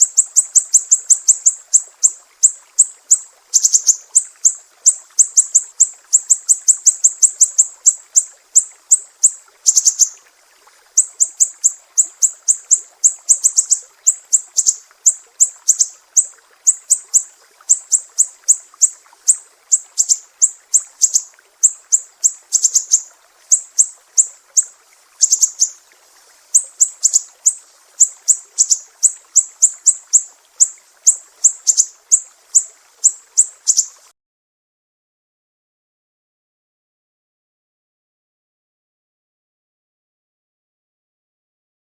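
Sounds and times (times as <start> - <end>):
songbird chirping: 0.0 - 34.1.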